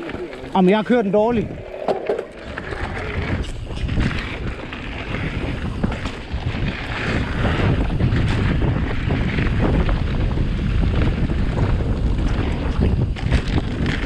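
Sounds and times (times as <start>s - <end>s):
low rumble of e-bike riding: 0.0s - 14.0s
wind buffeting microphone: 0.0s - 14.0s.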